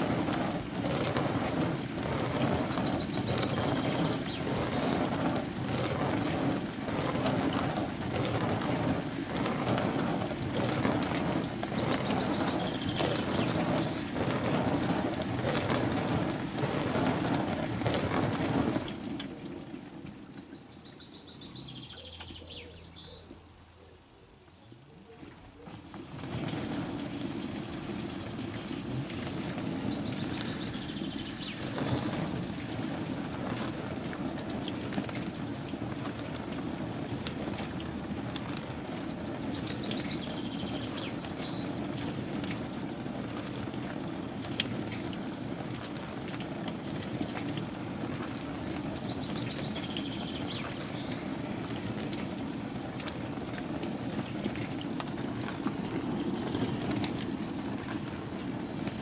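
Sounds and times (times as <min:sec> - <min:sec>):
washing machine churning water: 0:00.0 - 0:23.6, 0:25.1 - 0:59.0.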